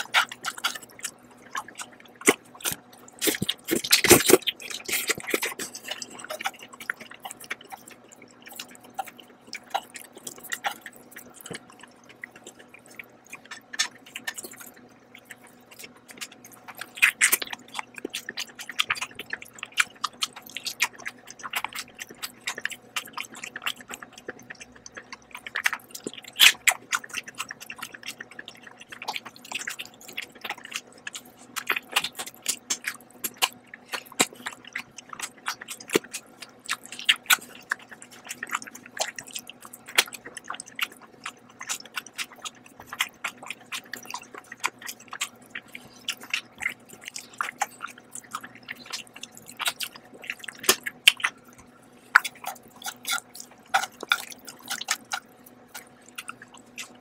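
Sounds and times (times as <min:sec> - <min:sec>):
close-miked chewing: 0:00.0 - 0:57.0.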